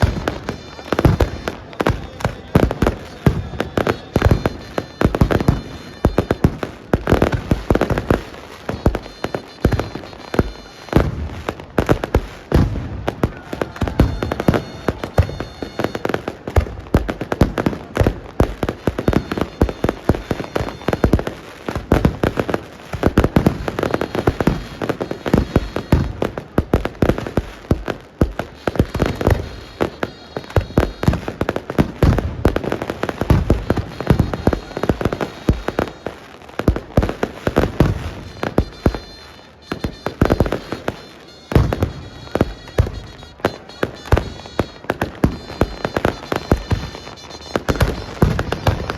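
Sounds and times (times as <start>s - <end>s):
fireworks and firecrackers bangs: 0.0s - 48.9s.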